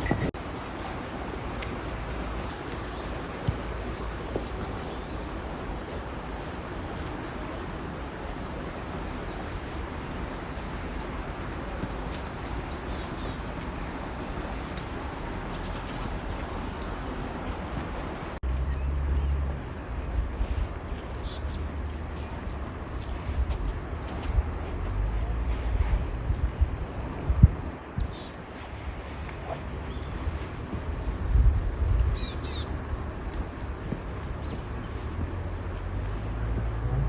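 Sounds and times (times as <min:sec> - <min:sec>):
small birds chirping: 0:00.0 - 0:26.4, 0:27.8 - 0:37.0.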